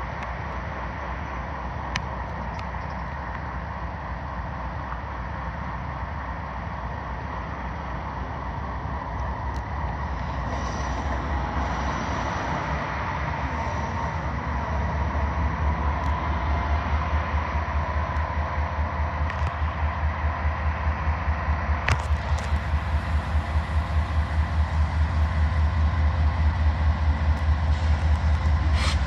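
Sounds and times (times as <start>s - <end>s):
diesel locomotive engine throbbing: 0.0s - 29.0s.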